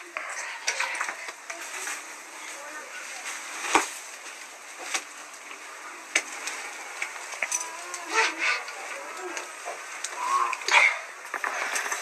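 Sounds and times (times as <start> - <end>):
brushwood fire crackling: 0.0 - 12.0.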